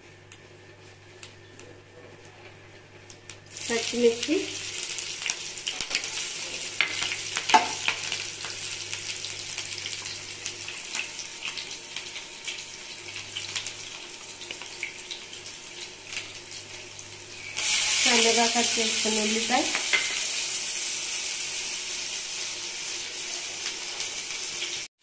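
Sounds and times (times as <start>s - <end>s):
chillies sizzling in hot oil: 3.5s - 24.9s.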